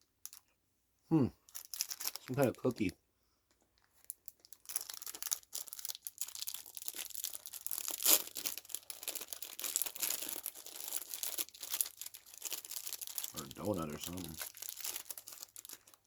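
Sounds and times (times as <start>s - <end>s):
snack wrapper crinkling: 1.4s - 2.9s, 3.8s - 16.0s.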